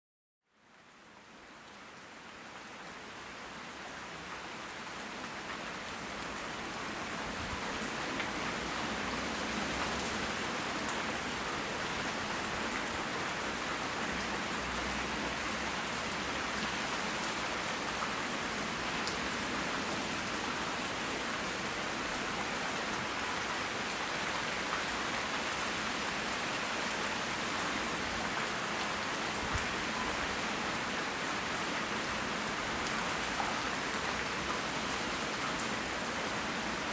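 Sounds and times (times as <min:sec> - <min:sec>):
rain pattering: 0:01.6 - 0:36.9.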